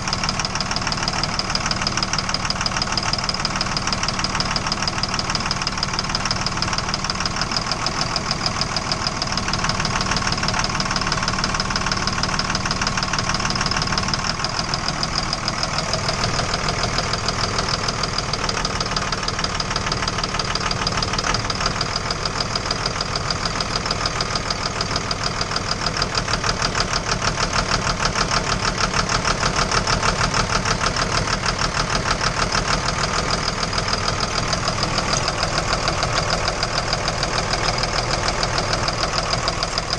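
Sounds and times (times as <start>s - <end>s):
engine idling with rapid knock: 0.0s - 39.9s.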